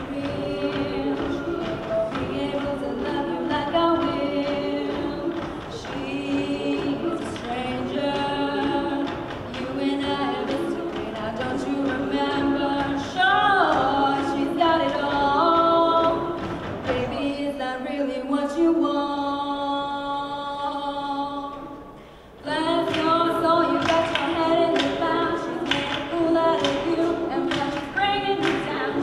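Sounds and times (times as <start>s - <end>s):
female lead voice singing: 0.0s - 29.0s.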